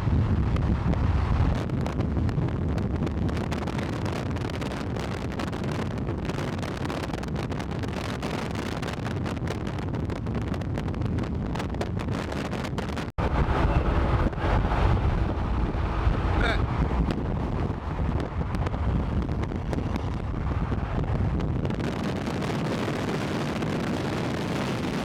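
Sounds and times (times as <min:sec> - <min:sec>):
low car rumble: 0:00.0 - 0:25.0
wind buffeting microphone: 0:00.0 - 0:25.0.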